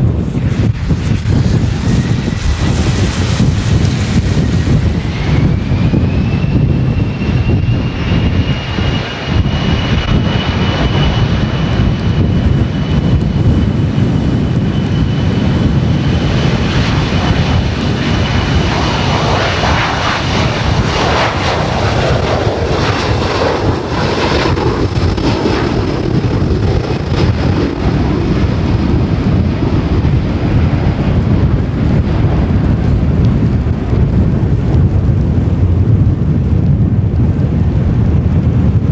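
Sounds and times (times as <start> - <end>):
jet engines whining at takeoff: 0.0 - 38.9
wind buffeting microphone: 0.0 - 38.9.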